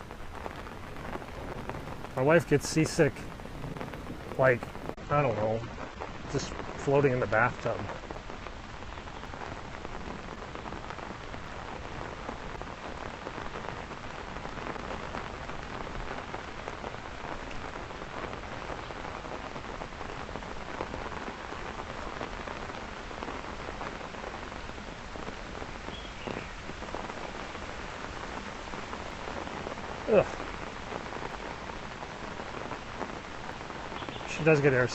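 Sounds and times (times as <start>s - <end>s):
heavy rain hissing: 0.0s - 34.9s
raindrops ticking nearby: 0.0s - 34.9s.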